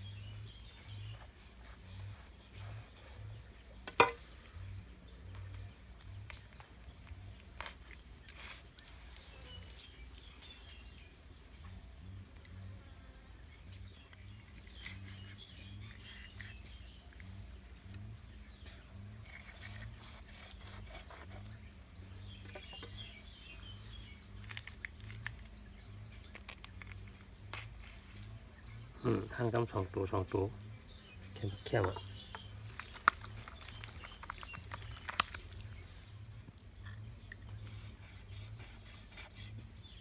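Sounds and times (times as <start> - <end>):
birds chirping: 0.0 - 40.0
insect trill: 0.0 - 40.0.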